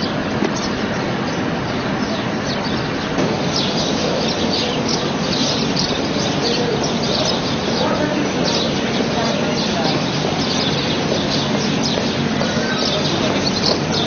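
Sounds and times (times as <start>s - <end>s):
rushing background noise: 0.0s - 14.0s
small birds chirping: 0.0s - 14.0s.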